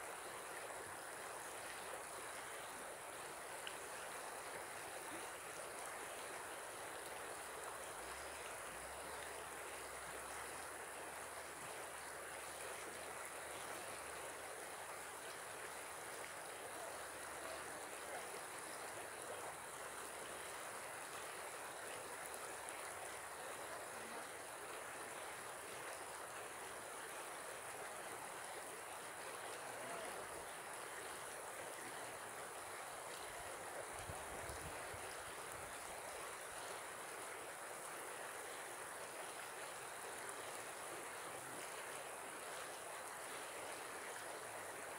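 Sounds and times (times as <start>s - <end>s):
river flowing over stones: 0.0s - 44.9s.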